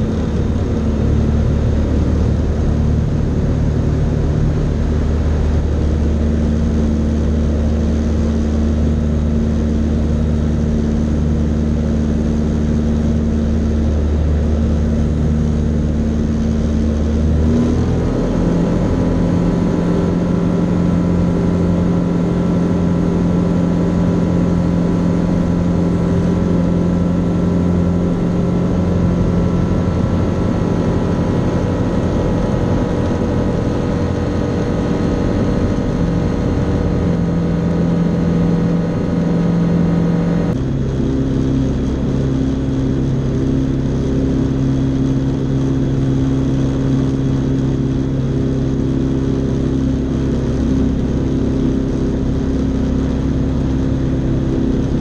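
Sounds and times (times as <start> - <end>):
ultralight engine and propeller droning: 0.0 - 55.0.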